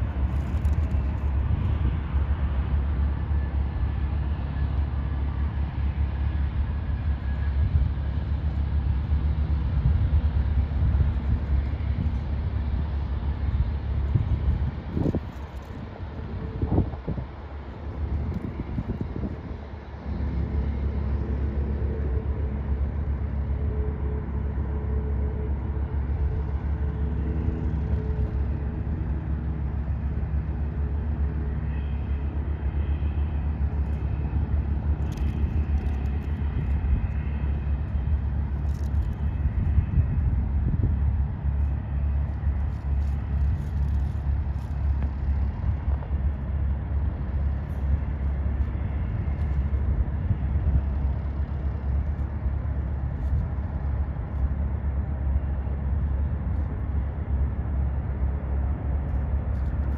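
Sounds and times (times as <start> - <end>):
aircraft engine rumble: 0.0 - 59.9
high turbine whine: 0.0 - 59.9.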